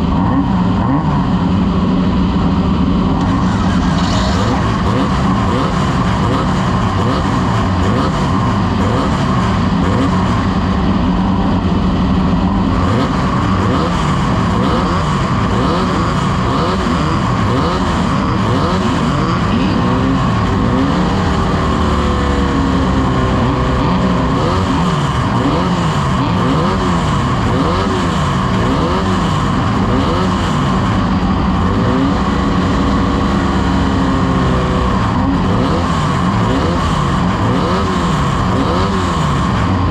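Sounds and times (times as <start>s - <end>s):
off-road race engines revving: 0.0s - 39.9s.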